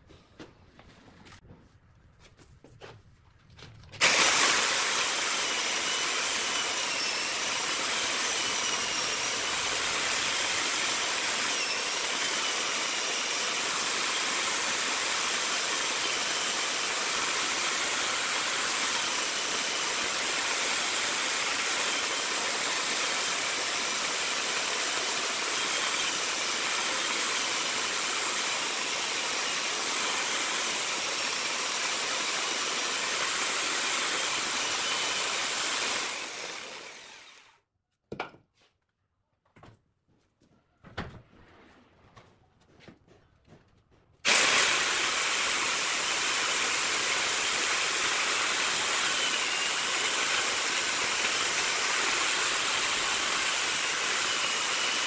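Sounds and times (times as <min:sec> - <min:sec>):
power tool running: 0:04.0 - 0:37.6, 0:44.2 - 0:55.0.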